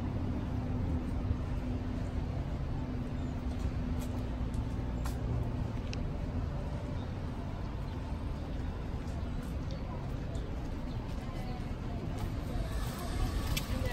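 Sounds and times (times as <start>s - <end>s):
street traffic rumble: 0.0s - 13.9s.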